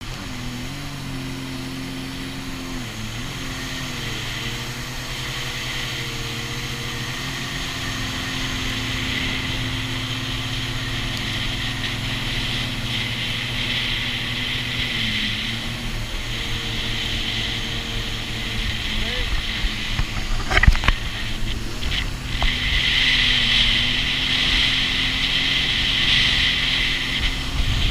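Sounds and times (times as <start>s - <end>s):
jet ski engine running: 0.0s - 27.9s.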